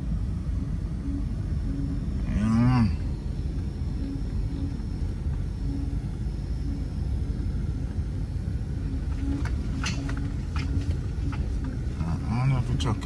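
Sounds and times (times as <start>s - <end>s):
vehicle driving low rumble: 0.0s - 13.0s.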